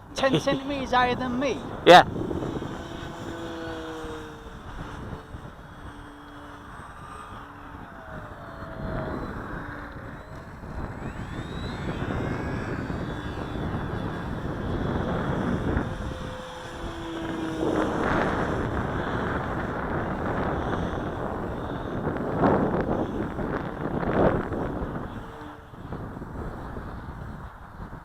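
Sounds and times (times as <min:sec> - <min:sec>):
model plane motor whine: 0:00.0 - 0:28.0
wind buffeting microphone: 0:00.0 - 0:28.0.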